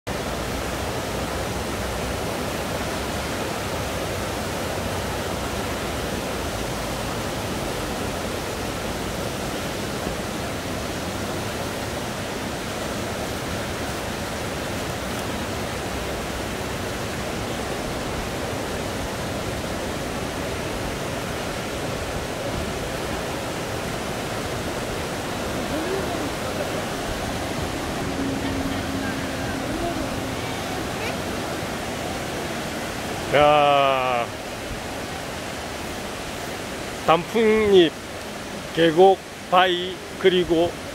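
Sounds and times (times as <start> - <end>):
stream rushing over rocks: 0.1 - 40.9.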